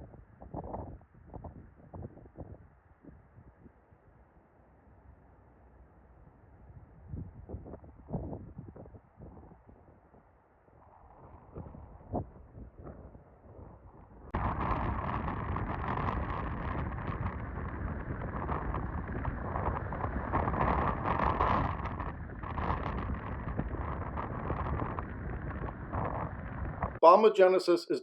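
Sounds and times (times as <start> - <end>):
blizzard wind gusting on microphone: 0.0 - 3.7, 6.6 - 27.0.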